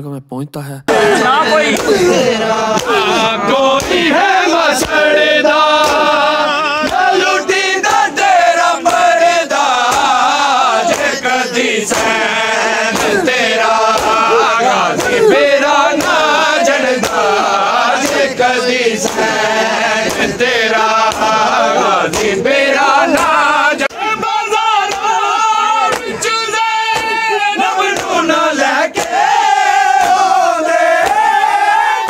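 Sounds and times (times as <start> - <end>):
chest-beating slaps: 0.9 - 24.0, 24.8 - 31.3
crowd of men chanting: 0.9 - 32.0.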